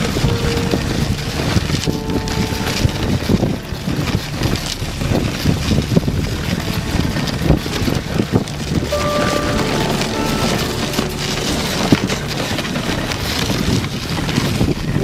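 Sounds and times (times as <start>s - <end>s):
dog sled running on snow: 0.0s - 15.0s
wind buffeting microphone: 0.0s - 15.0s.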